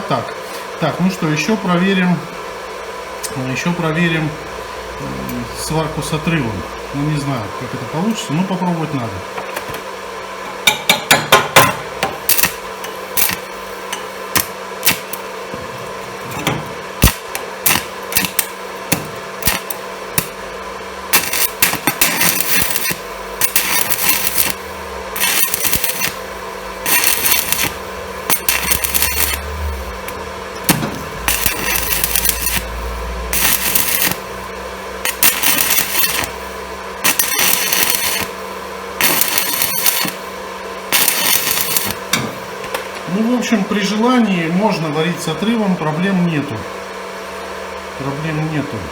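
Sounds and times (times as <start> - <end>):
welding arc crackling: 3.2 - 44.2.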